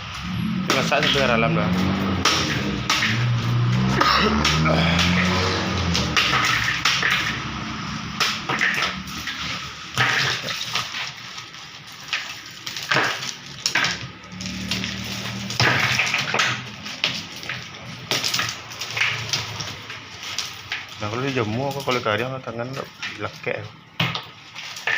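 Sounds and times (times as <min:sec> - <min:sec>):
water splashing: 0:00.1 - 0:22.2
ice blocks cracking: 0:00.7 - 0:24.9.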